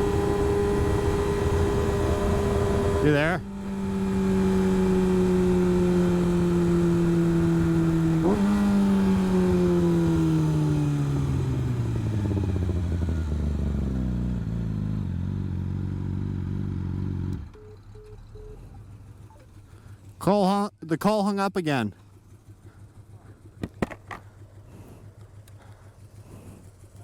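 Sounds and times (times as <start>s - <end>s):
motorcycle engine running: 0.0s - 20.6s, 21.6s - 27.0s.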